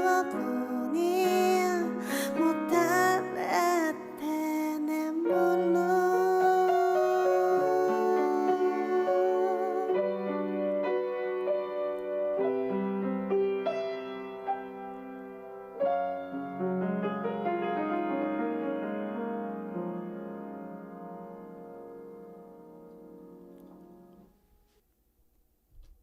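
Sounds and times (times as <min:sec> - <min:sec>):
piano chords: 0:00.0 - 0:24.4.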